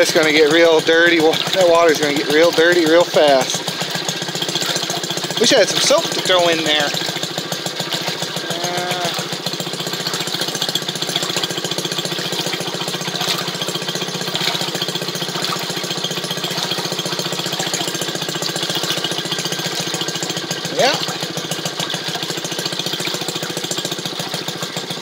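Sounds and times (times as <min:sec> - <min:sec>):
small two-stroke engine running: 0:00.0 - 0:25.0
water churning in washing machine: 0:00.0 - 0:25.0.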